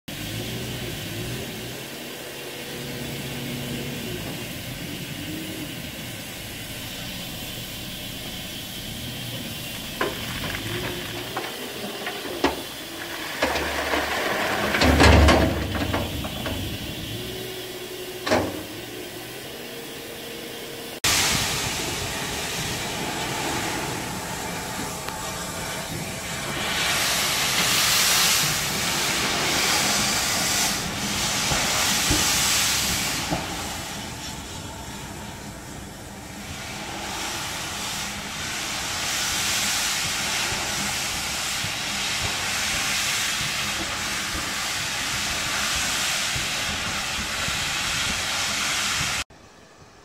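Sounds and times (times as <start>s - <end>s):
loud steam rushing: 0.1s - 50.0s
steam hissing: 0.1s - 50.0s.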